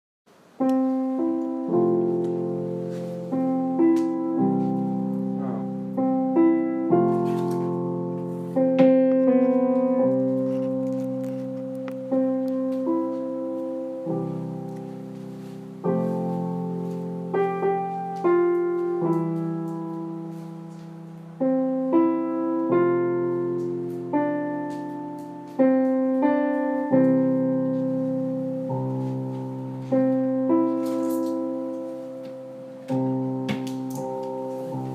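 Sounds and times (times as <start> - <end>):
slow piano chords: 0.3 - 34.9.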